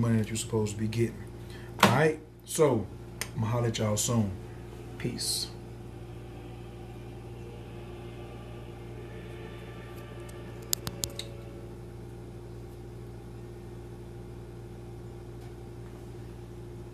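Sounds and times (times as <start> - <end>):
low appliance hum: 0.0 - 16.9.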